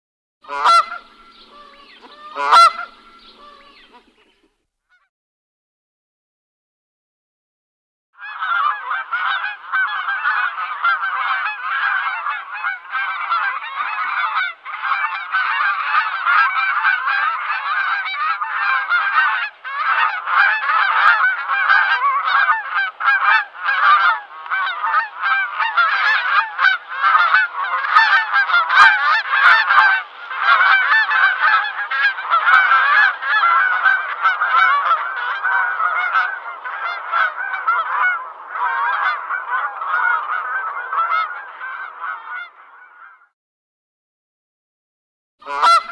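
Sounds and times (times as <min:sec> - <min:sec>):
geese honking: 0:00.4 - 0:05.1, 0:08.2 - 0:43.3, 0:45.4 - 0:45.9.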